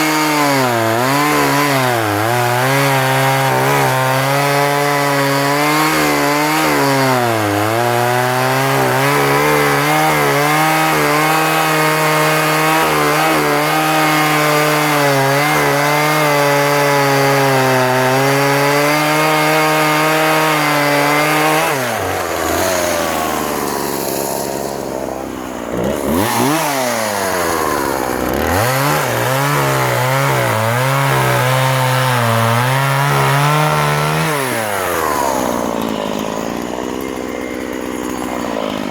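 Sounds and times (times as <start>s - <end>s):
chainsaw cutting timber: 0.0s - 38.9s
chainsaw idling and revving: 0.0s - 38.9s.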